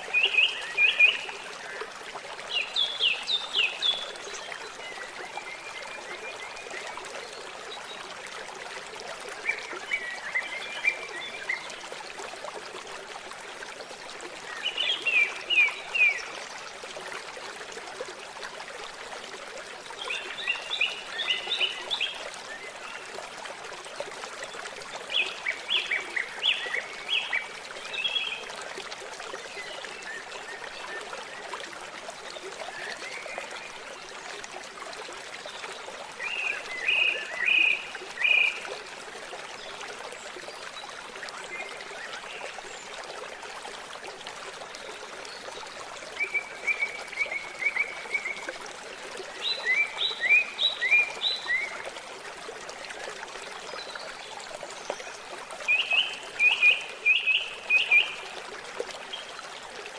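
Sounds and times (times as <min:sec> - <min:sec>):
water rushing: 0:09.4 - 0:59.9.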